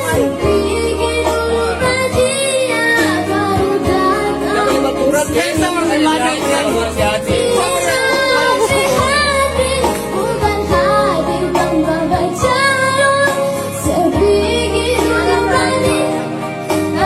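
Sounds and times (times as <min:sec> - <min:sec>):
child singing: 0:00.0 - 0:17.0
instrumental backing with bass: 0:00.0 - 0:17.0.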